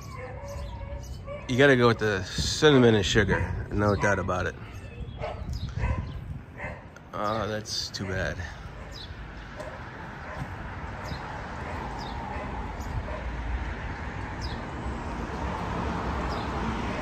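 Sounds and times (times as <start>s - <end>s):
wind blowing across microphone: 1.2s - 8.9s, 10.0s - 16.8s.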